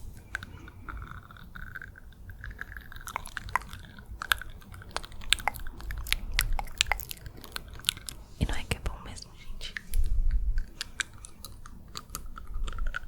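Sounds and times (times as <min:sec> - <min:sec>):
lip and tongue clicks: 0:00.2 - 0:08.2, 0:09.7 - 0:13.0.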